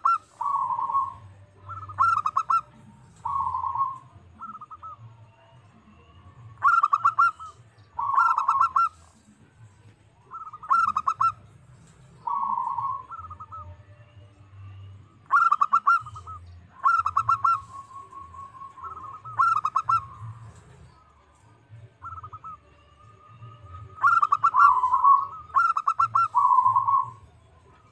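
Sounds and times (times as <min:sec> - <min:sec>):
dove cooing: 0:00.0 - 0:05.1, 0:06.4 - 0:09.4, 0:10.2 - 0:14.0, 0:15.2 - 0:21.0, 0:22.0 - 0:22.6, 0:23.6 - 0:27.9.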